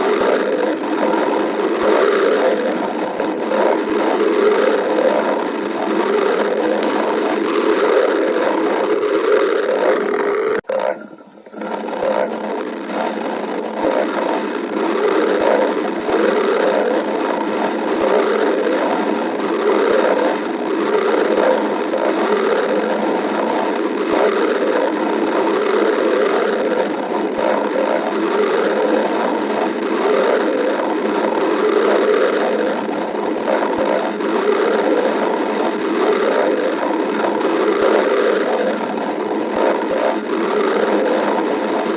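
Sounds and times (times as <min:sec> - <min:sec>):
stomach growling and gurgling: 0:00.0 - 0:41.9.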